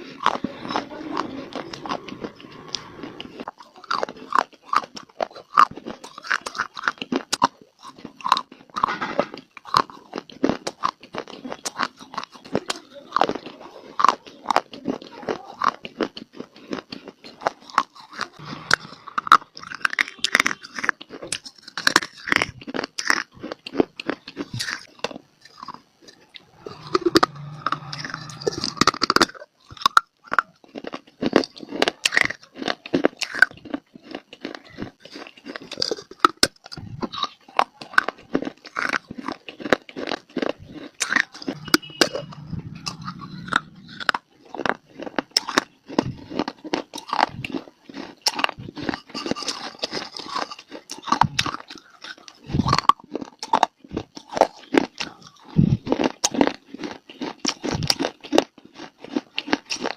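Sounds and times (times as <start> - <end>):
crunchy chewing of clay: 0.0 - 59.9.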